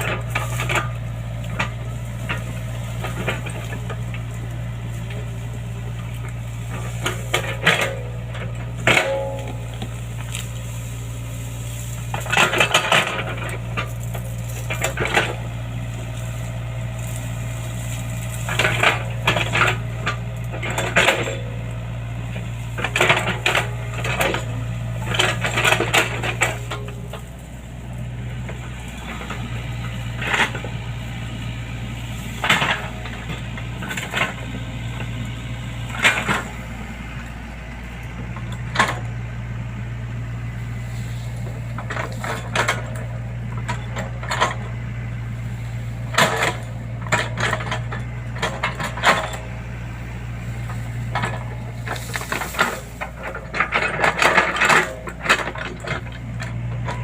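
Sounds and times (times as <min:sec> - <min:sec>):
excavator engine running: 0:00.0 - 0:57.0
metallic clanking and rattling: 0:00.0 - 0:57.0.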